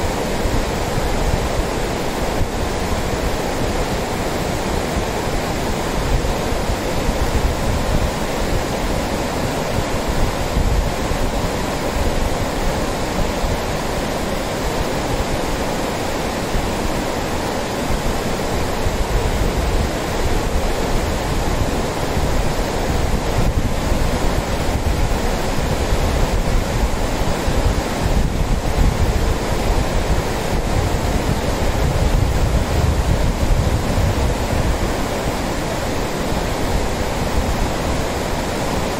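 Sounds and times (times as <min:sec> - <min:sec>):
river rapids rushing over rocks: 0:00.0 - 0:38.9
wind rumbling on microphone: 0:00.0 - 0:38.9.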